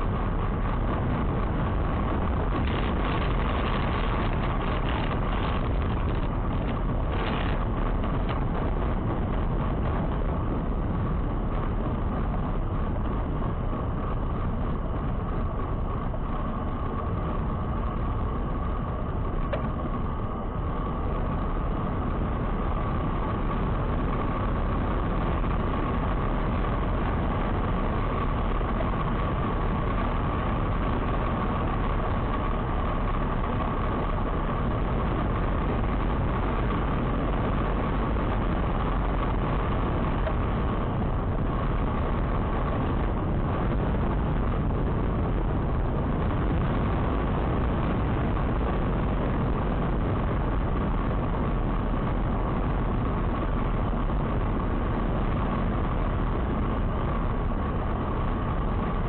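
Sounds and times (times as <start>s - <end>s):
constant whine: 0.0s - 59.0s
vehicle engine and road rumble: 0.0s - 59.0s.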